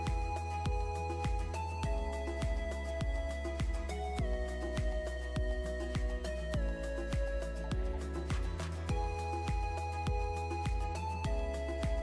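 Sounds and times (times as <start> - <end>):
background music with low thumping beat: 0.0 - 12.0.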